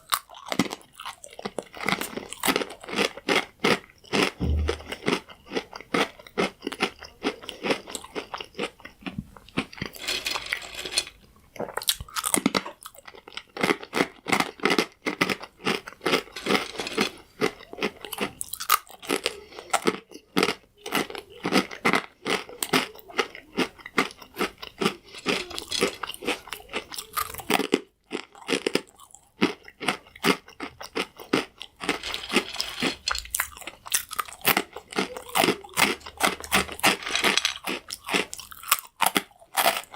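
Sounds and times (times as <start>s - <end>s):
croutons crunching being chewed: 0.0s - 4.3s, 11.6s - 39.9s.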